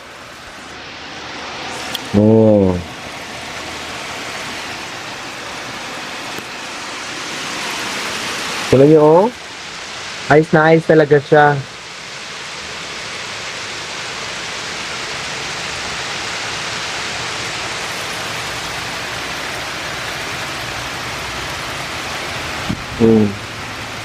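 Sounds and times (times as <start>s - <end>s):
hail falling: 0.0s - 24.0s.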